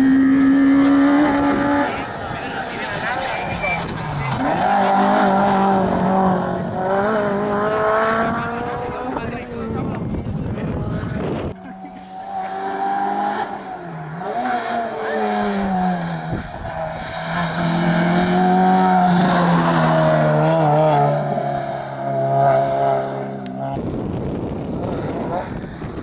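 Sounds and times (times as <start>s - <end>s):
rally car engine at high revs: 0.0s - 26.0s.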